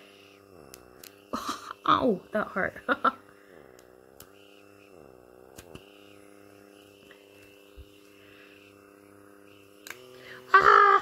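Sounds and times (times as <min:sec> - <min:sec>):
small electric motor humming: 0:00.0 - 0:11.0.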